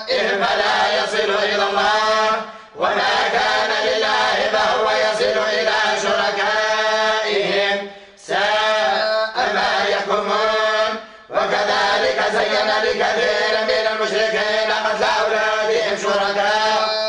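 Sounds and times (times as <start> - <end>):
voices chanting together: 0.0 - 17.0.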